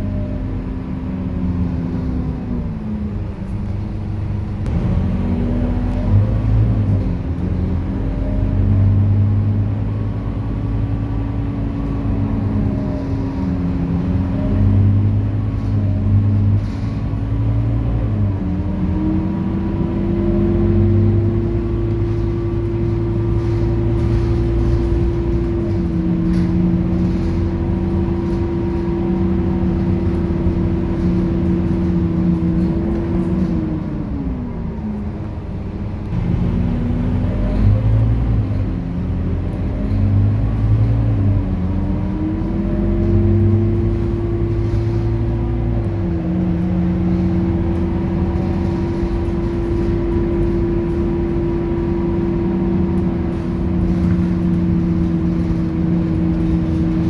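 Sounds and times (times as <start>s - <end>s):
bus engine rumble: 0.0s - 57.0s
engine whine: 0.0s - 57.0s.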